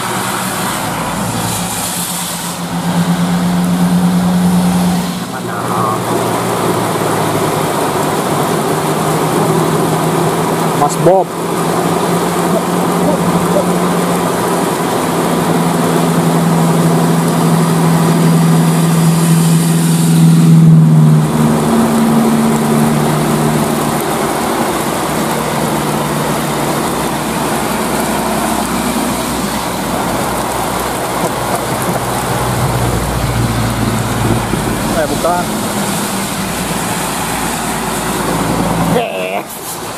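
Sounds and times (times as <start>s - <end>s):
rain and tyres on wet road: 0.0s - 39.9s
truck engine drone: 0.0s - 39.9s.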